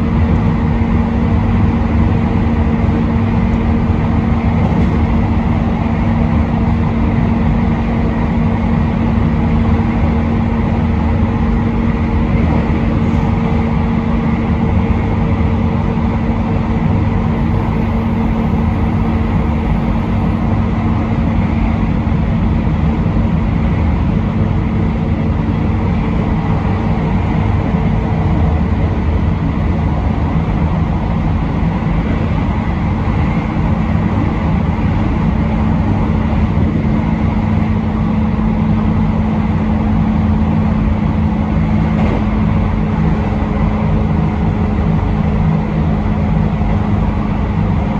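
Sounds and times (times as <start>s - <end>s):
steady low hum: 0.0s - 47.9s
train wheels rumbling on rail: 0.0s - 47.9s.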